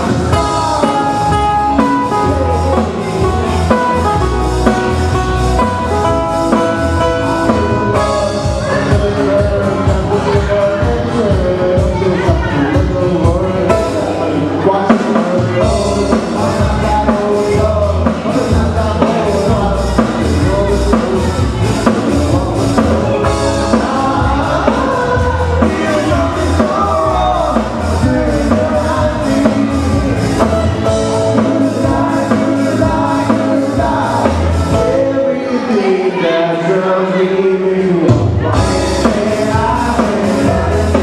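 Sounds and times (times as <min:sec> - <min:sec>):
drum-kit beat: 0:00.0 - 0:14.0, 0:14.8 - 0:35.1, 0:38.1 - 0:41.0
live band playing: 0:00.0 - 0:41.0
person singing: 0:00.0 - 0:41.0.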